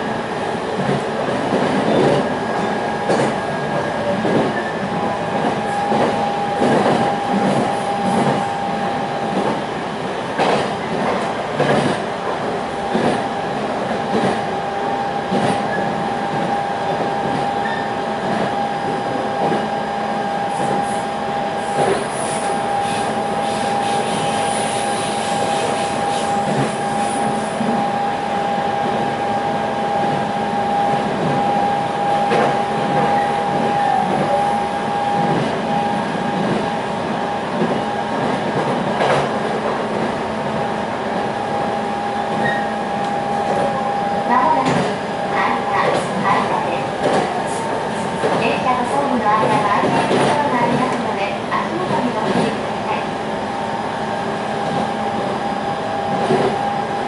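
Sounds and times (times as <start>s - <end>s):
train rumbling at speed: 0.0s - 57.0s.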